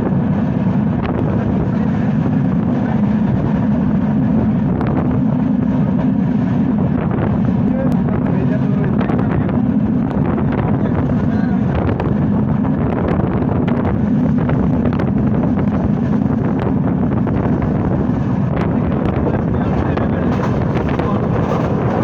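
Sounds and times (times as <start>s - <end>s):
train rumbling: 0.0s - 22.0s
wind buffeting microphone: 0.0s - 22.0s.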